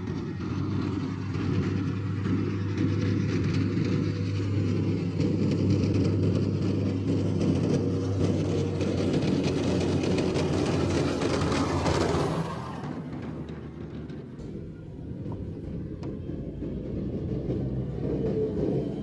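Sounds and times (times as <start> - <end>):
clatter of tracks: 0.0 - 19.0
diesel engine running: 0.0 - 19.0.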